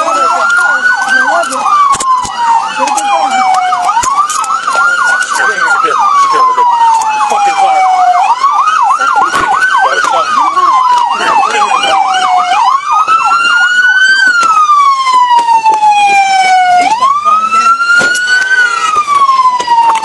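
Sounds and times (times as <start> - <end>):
fast yelping siren: 0.0 - 20.0
police siren wailing: 0.0 - 20.0.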